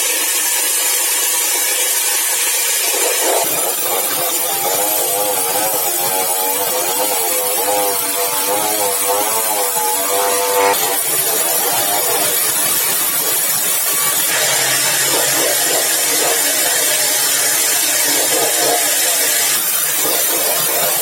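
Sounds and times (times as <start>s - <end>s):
sawmill saw cutting timber: 0.0s - 21.0s.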